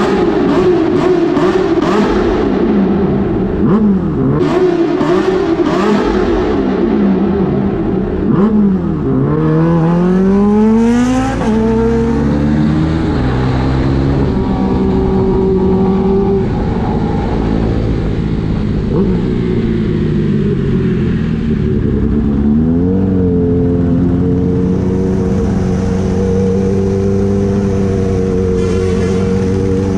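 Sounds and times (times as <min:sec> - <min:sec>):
motorcycle engine revving: 0:00.0 - 0:29.9
road and wind noise: 0:00.0 - 0:29.9.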